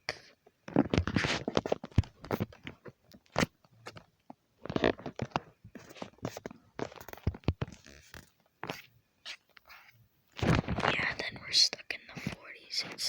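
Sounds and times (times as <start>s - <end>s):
rustling and scratching handling noise: 0.0s - 13.0s.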